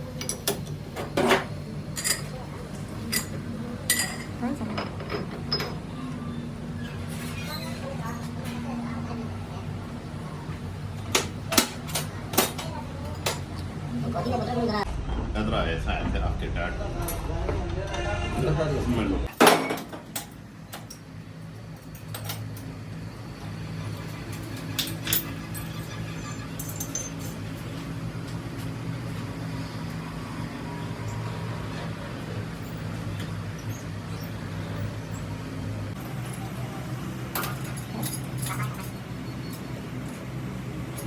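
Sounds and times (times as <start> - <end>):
engine humming steadily: 0.0 - 15.0, 18.6 - 41.0.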